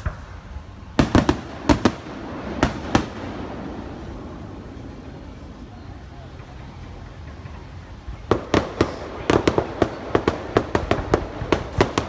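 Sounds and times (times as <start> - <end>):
firework shells bursting: 0.0 - 5.4, 6.4 - 12.0.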